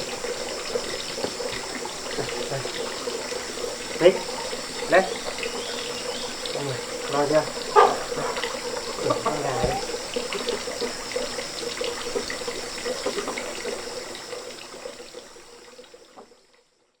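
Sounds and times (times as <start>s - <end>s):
running water splashing: 0.0s - 16.3s.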